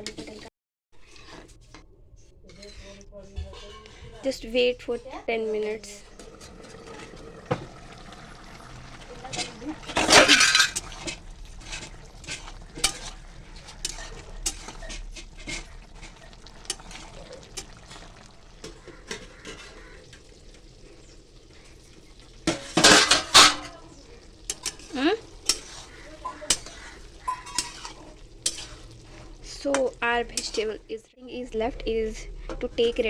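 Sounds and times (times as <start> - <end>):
spoon scraping cooking pan: 0.0 - 31.0.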